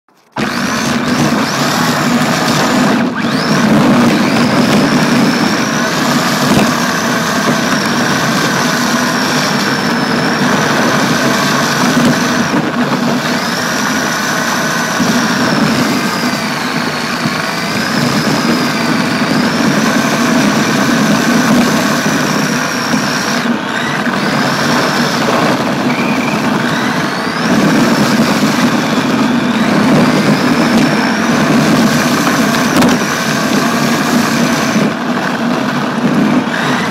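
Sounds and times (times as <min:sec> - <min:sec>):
electric motor whine: 0:00.1 - 0:36.9
gear and tyre noise: 0:00.1 - 0:36.9.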